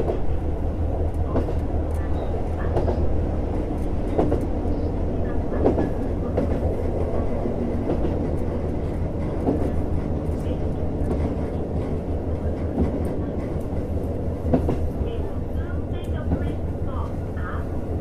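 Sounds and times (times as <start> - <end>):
diesel railcar engine hum: 0.0 - 18.0.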